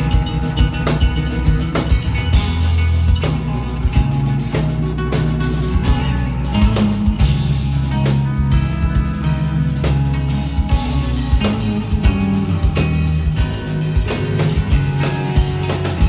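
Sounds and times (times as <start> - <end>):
drum kit and cymbals: 0.0 - 16.0
electric guitar: 0.0 - 16.0.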